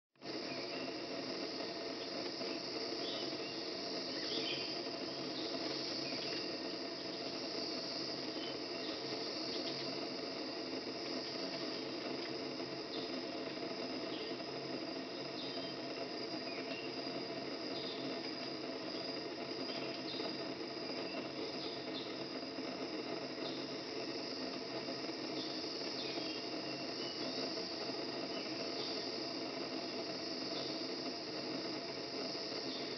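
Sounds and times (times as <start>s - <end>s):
high shrill insect drone: 0.2s - 32.9s.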